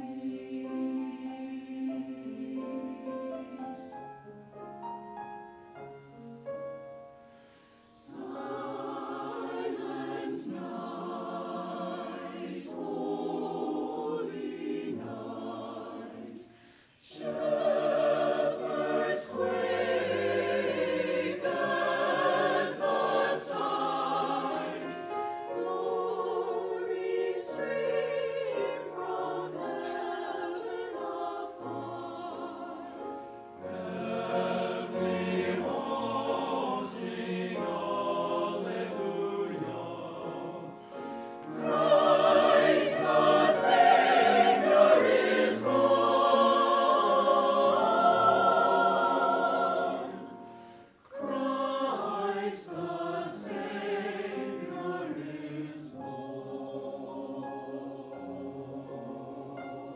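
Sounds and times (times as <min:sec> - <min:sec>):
church choir singing: 0:00.0 - 0:05.0, 0:07.2 - 0:59.9.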